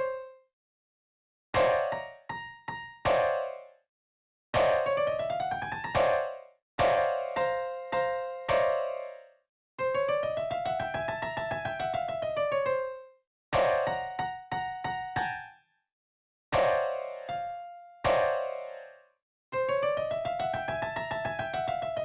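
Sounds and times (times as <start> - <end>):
sampled piano melody: 1.6 - 3.8, 4.6 - 15.5, 16.6 - 19.0, 19.6 - 22.0.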